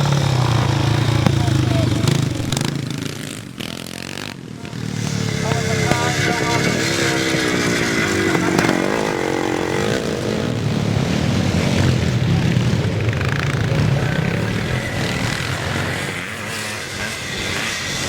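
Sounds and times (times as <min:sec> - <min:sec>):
motocross motorcycle engines: 0:00.0 - 0:18.0.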